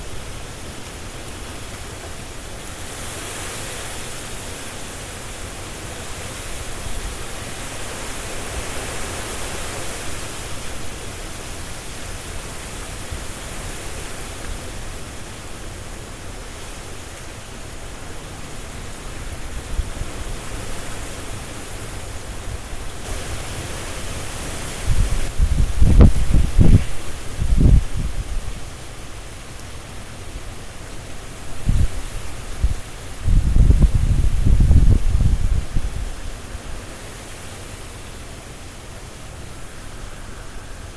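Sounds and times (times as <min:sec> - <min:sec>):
leaves rustling: 0:00.0 - 0:40.9
strong wind through trees: 0:00.0 - 0:40.9.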